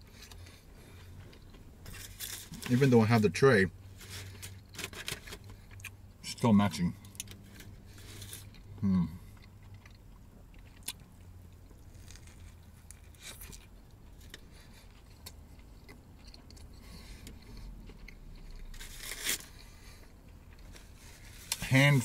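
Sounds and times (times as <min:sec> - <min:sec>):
person chewing: 0:00.0 - 0:02.6, 0:04.0 - 0:06.0, 0:07.0 - 0:21.6
low steady hum: 0:00.0 - 0:22.0.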